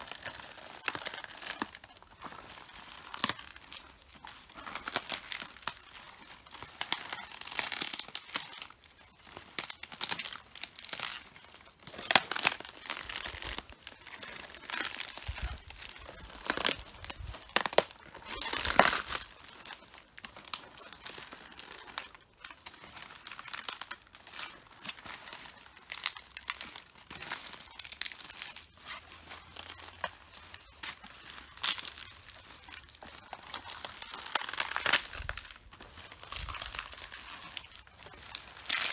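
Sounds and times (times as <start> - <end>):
cabbage leaves crushed underfoot: 0.0 - 38.9.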